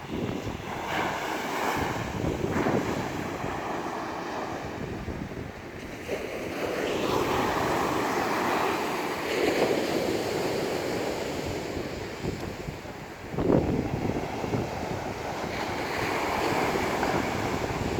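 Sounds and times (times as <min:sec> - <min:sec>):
waves breaking: 0:00.0 - 0:17.9
wind buffeting microphone: 0:00.0 - 0:17.9.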